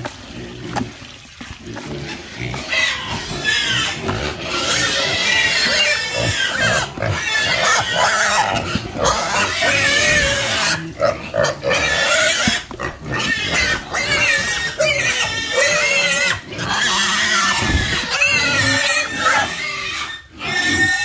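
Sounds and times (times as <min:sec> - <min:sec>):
pigs squealing: 0:01.6 - 0:21.0.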